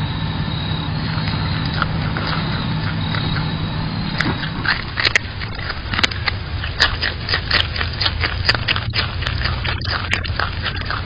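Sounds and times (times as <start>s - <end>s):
steady low hum: 0.0s - 11.0s
groundhog chewing raw vegetable: 0.7s - 11.0s.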